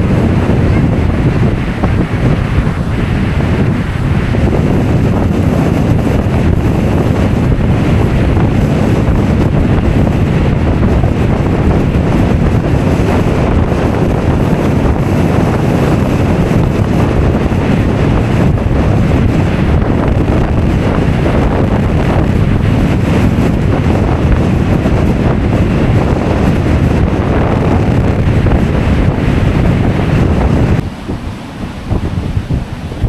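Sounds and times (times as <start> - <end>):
ocean surf washing: 0.0 - 33.0
wind buffeting microphone: 0.0 - 33.0.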